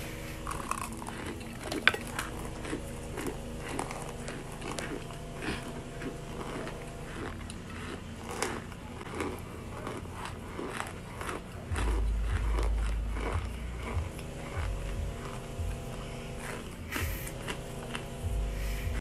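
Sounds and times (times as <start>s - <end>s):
low rumble: 0.0s - 7.9s, 11.6s - 19.0s
crunchy food being chewed: 0.0s - 19.0s.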